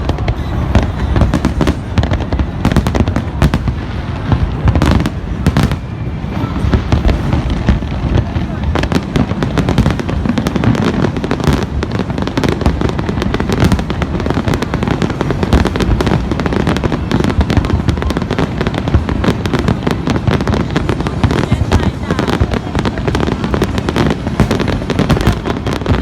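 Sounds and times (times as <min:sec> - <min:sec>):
fireworks booming and crackling: 0:00.0 - 0:26.0
sharp firework reports: 0:00.0 - 0:26.0.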